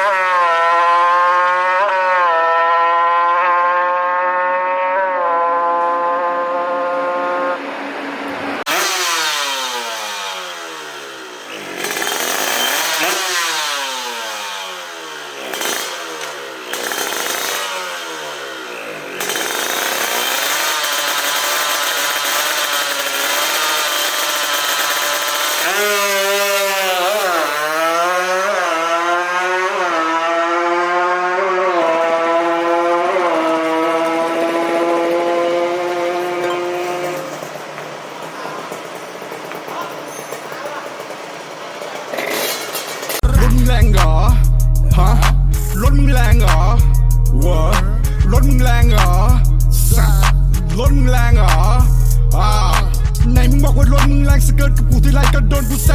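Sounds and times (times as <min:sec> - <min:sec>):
racing motorcycle engine revving: 0:00.0 - 0:55.9.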